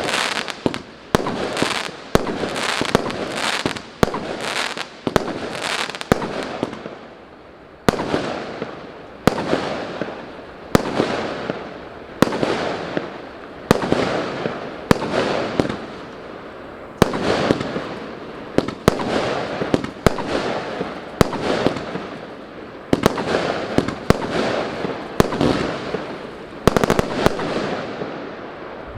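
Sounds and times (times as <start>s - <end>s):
fireworks firing with crackling tails: 0.0s - 28.9s.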